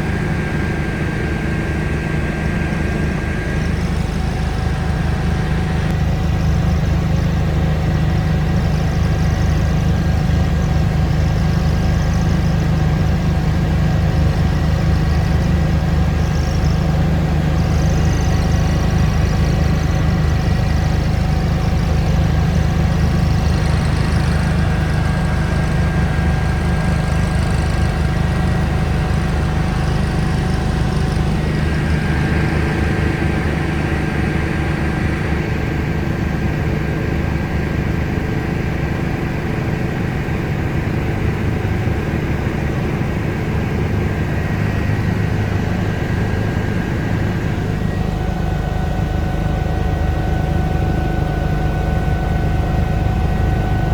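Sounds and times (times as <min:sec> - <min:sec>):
helicopter rotor and engine drone: 0:00.0 - 0:53.9
helicopter turbine whine: 0:00.0 - 0:53.9.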